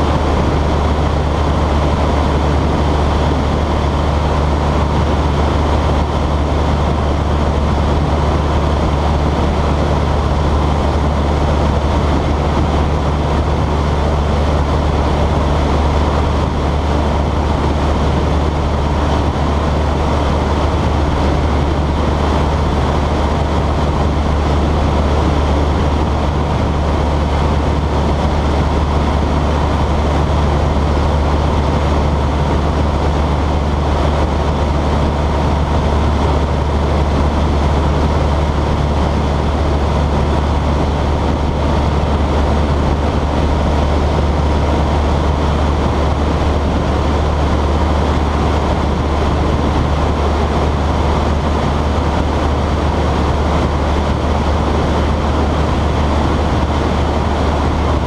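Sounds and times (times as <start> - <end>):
plane engine drone: 0.0 - 58.0
wind rush: 0.0 - 58.0.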